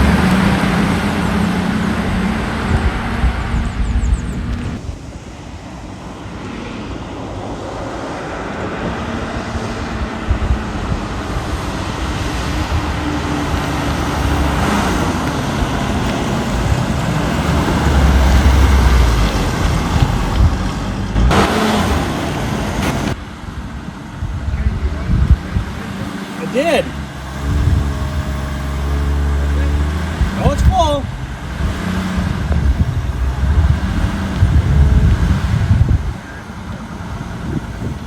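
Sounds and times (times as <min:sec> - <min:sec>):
car engine running: 0:00.0 - 0:04.9, 0:08.9 - 0:38.0
road and wind noise: 0:00.0 - 0:38.0.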